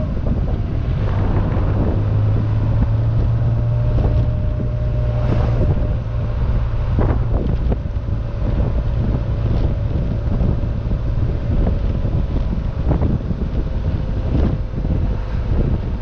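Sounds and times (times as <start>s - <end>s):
car engine running: 0.0s - 16.0s
wind buffeting microphone: 0.0s - 16.0s.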